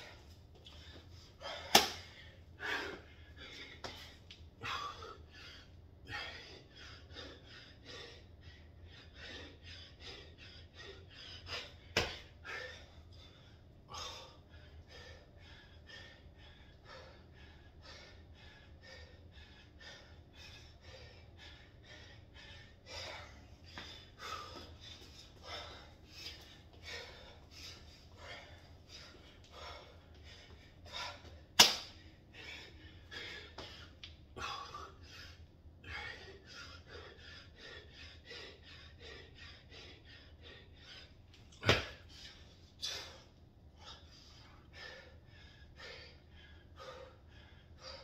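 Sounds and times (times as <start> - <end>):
man breathing hard: 0.0 - 48.0.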